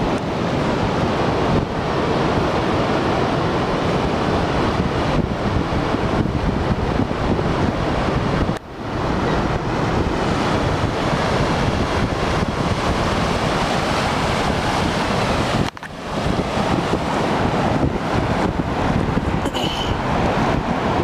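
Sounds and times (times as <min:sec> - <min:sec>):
breaking surf: 0:00.0 - 0:21.0
wind buffeting microphone: 0:00.0 - 0:21.0.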